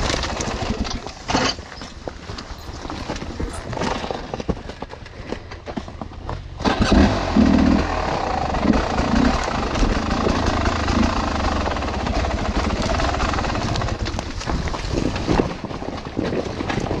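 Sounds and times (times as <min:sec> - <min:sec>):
bike rattling and knocking: 0:00.0 - 0:17.0
wind rumbling on microphone: 0:00.0 - 0:17.0.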